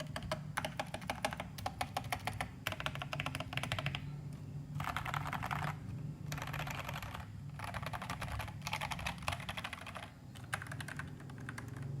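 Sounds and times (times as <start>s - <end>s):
fast typing on mechanical keyboard: 0.0s - 4.1s, 4.7s - 12.0s.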